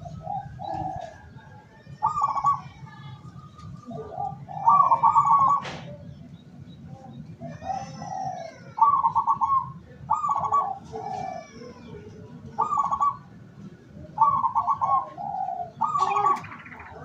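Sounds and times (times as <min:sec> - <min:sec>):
doves cooing: 0:00.0 - 0:06.3, 0:07.0 - 0:17.0.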